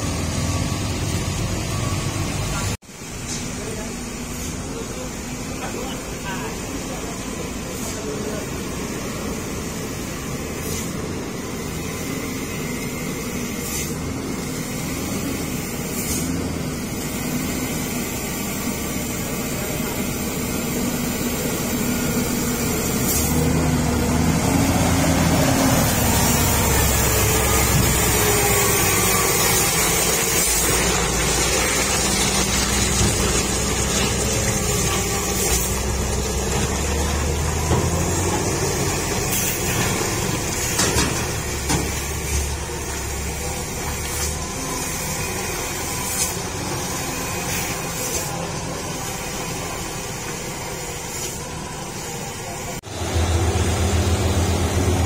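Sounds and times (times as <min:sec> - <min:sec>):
diesel truck engine pulling: 0:00.0 - 0:02.8, 0:03.7 - 0:55.0.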